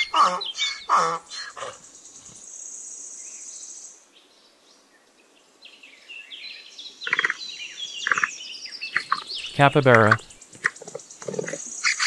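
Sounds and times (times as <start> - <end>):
birds chirping: 0.0 - 3.8, 5.7 - 12.0.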